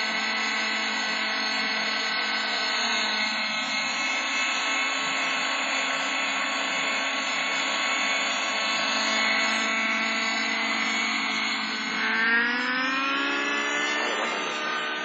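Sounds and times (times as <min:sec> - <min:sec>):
rc helicopter engine and rotor: 0:00.0 - 0:15.0.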